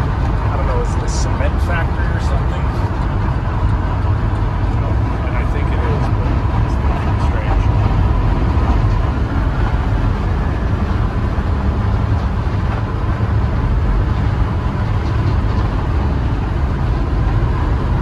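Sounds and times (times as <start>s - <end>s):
vehicle rumble from inside cab: 0.0s - 18.0s.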